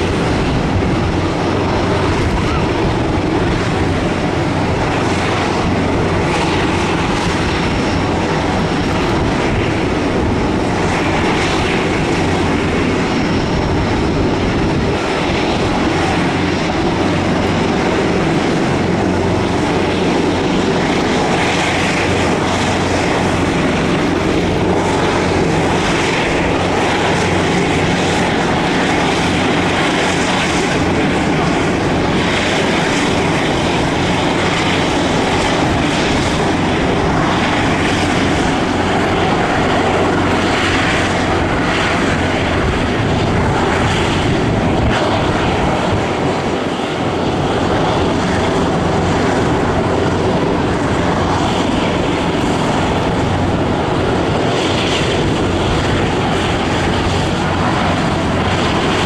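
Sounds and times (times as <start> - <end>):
jet engines rumbling with whine: 0.0 - 59.0.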